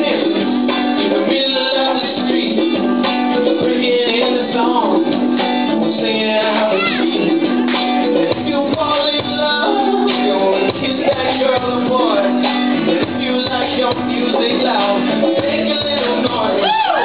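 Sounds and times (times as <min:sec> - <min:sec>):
strummed acoustic guitar: 0:00.0 - 0:16.6
live band playing: 0:00.0 - 0:17.0.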